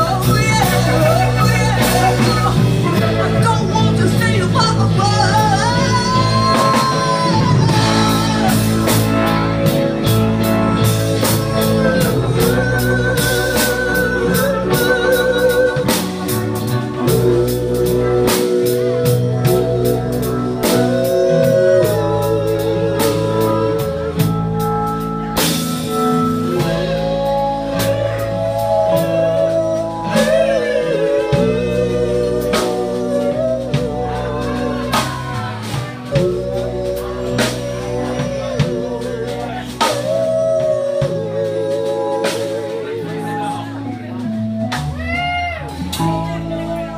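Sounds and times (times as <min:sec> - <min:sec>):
blues band playing instrumental: 0:00.0 - 0:46.9.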